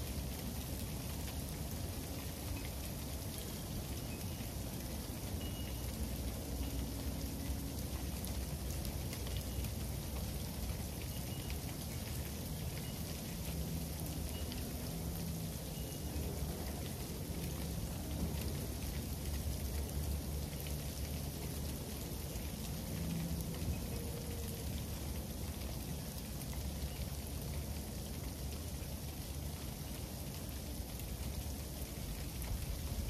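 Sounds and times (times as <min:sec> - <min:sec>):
freezing rain pattering: 0:00.0 - 0:33.0.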